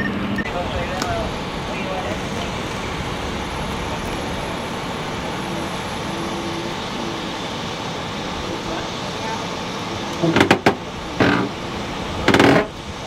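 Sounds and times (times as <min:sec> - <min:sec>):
idling emergency vehicle engines: 0:00.0 - 0:13.0.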